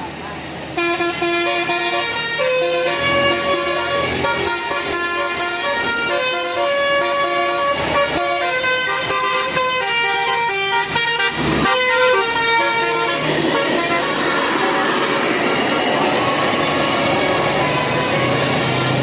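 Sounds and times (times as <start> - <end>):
multi-tone air horns playing a tune: 0.8 - 19.0.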